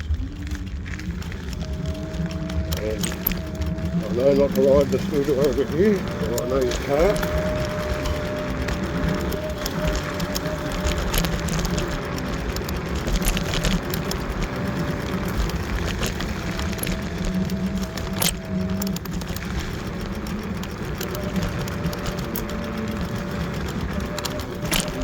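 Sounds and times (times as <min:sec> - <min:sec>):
electric scooter motor whine: 0:00.0 - 0:25.0
stones and frame rattling: 0:00.0 - 0:25.0
tyres rumbling on dirt: 0:00.0 - 0:25.0.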